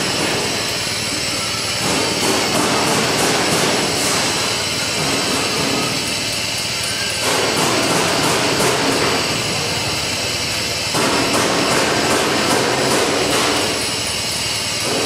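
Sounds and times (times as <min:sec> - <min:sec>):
machine noise with hiss: 0:00.0 - 0:15.0.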